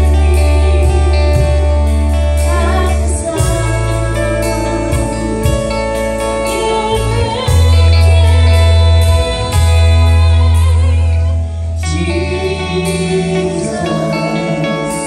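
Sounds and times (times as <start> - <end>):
drum kit with cymbal hits: 0.0 - 12.1
electric bass: 0.0 - 15.0
electric guitar: 0.0 - 15.0
person singing: 0.0 - 15.0.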